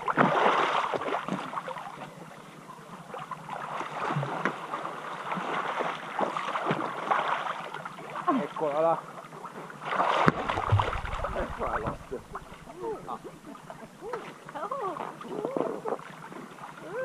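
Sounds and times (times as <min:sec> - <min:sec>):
pool water lapping and sloshing: 0:00.0 - 0:17.0
swimmer splashing: 0:00.0 - 0:17.0.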